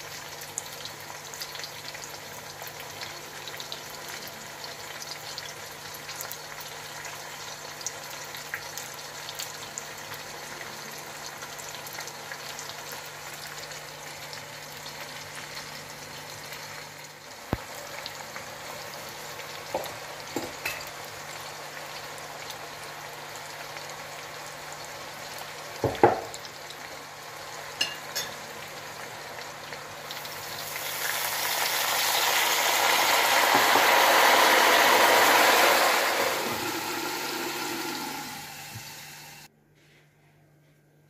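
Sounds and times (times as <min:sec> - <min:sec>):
food sizzling in hot oil: 0:00.0 - 0:39.5.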